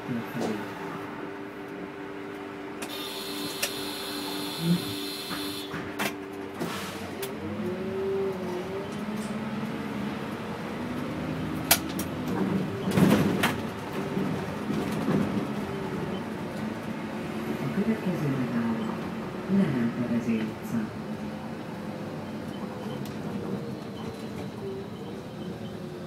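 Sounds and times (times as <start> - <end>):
bus engine: 0.0 - 26.0.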